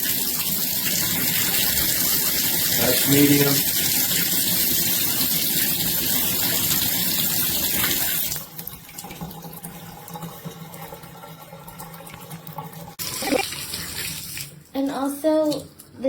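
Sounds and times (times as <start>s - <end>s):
water running from shower faucet: 0.0s - 16.0s.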